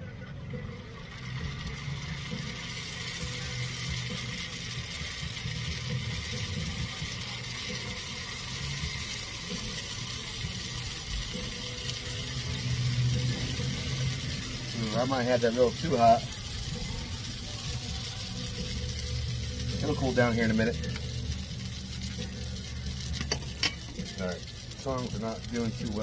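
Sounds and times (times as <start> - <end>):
food sizzling in hot oil: 0.5 - 26.0.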